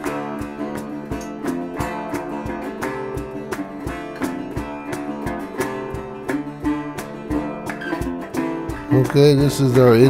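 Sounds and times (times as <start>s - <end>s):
country acoustic guitar music: 0.0s - 10.0s.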